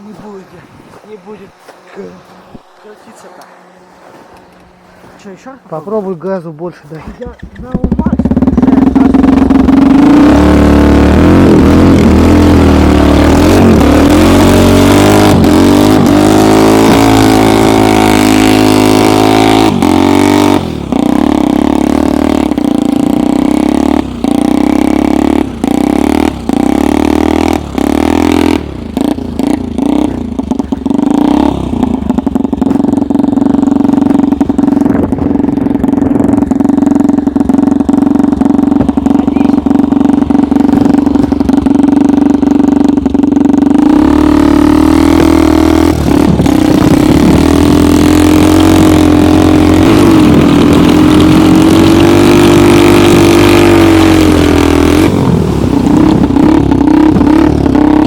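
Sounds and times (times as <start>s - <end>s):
snowmobile engine at full throttle: 0.0s - 6.2s, 6.9s - 58.0s.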